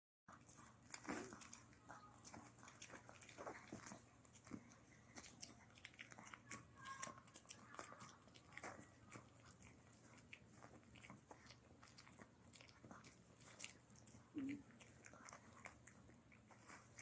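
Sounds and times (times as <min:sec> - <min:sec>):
dog chewing with crunching clicks: 0:00.3 - 0:17.0.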